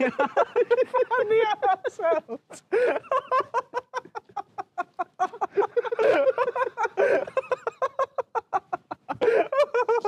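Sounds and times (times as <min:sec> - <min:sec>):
men laughing: 0:00.0 - 0:10.0.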